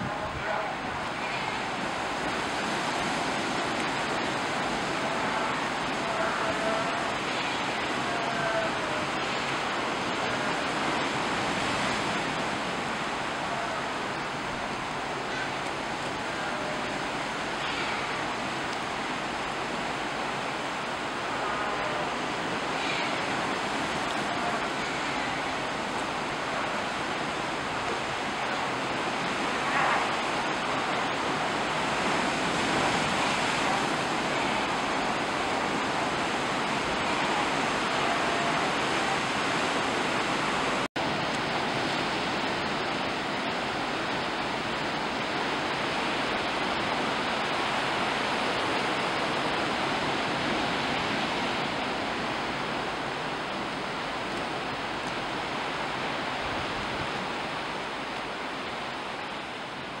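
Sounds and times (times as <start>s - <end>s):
waves washing over rocky shore: 0.0s - 60.0s.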